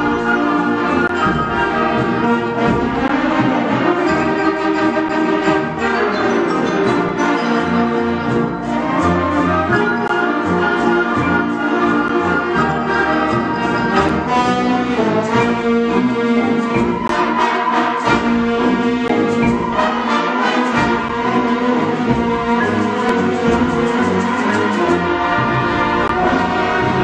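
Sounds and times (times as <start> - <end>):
wind band playing mambo: 0.0 - 27.0.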